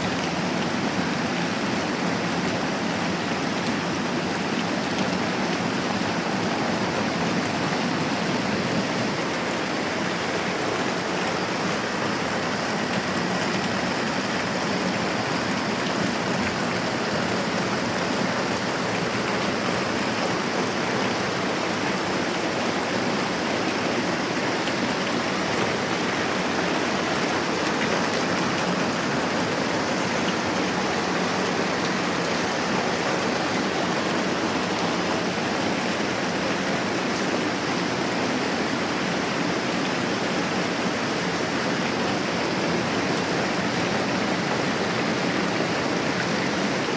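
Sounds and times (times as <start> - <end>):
moderate rain falling: 0.0 - 46.9.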